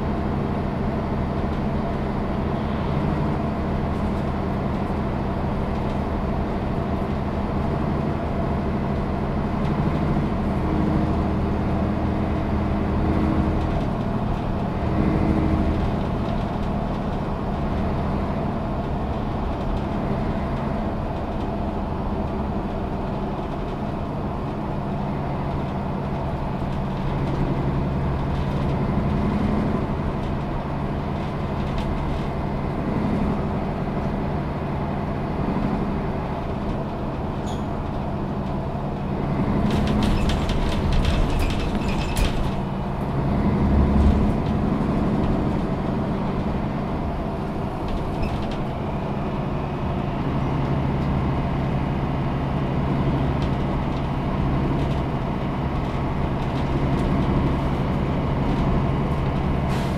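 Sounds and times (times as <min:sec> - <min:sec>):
bus engine humming: 0:00.0 - 0:59.9.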